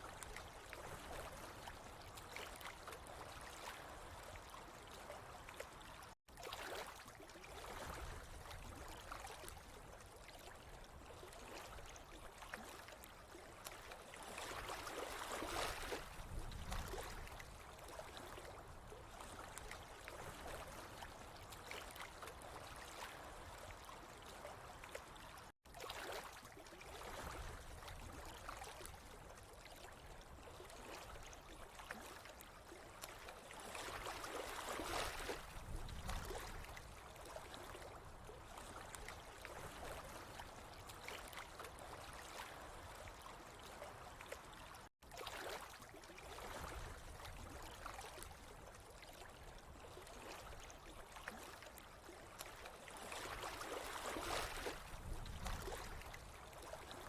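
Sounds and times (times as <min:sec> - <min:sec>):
water trickling and gurgling: 0:00.0 - 0:57.0.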